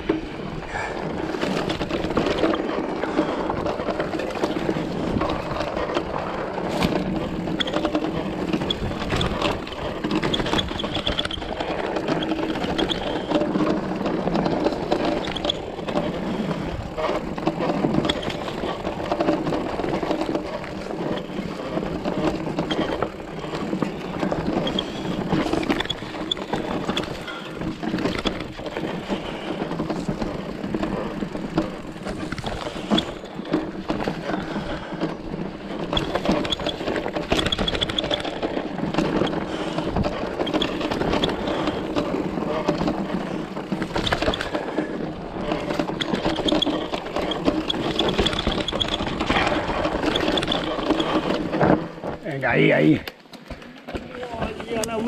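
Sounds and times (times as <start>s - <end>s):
tyres rattling over stones: 0.6s - 55.0s.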